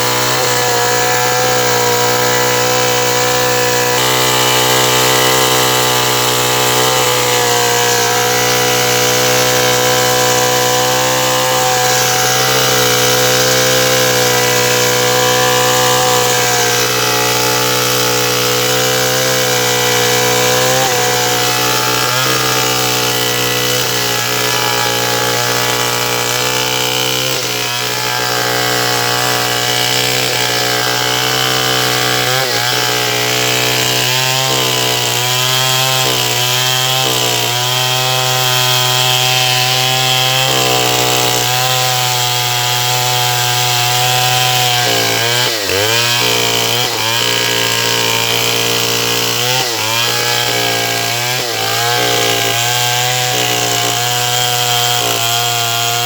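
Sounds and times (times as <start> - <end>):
chainsaw sawing wood: 0.0 - 56.0.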